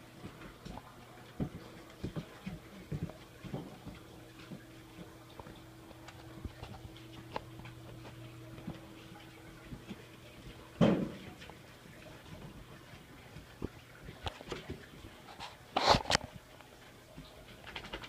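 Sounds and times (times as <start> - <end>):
steady low hum: 0.0 - 17.6
animals scrambling on tile floor: 0.2 - 16.4, 17.2 - 18.0.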